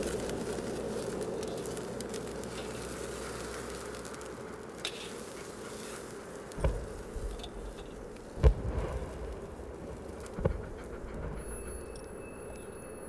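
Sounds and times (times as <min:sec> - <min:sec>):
low hiss and hum: 0:00.0 - 0:13.0.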